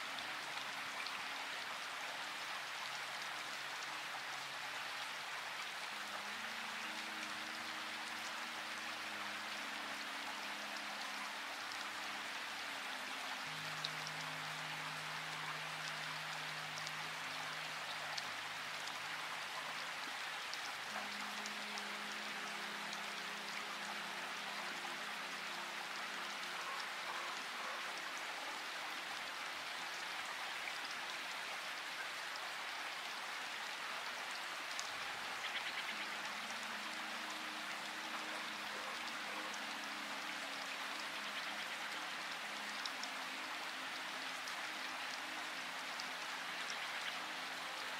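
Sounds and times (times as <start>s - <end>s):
steady rain patter: 0.0s - 47.9s.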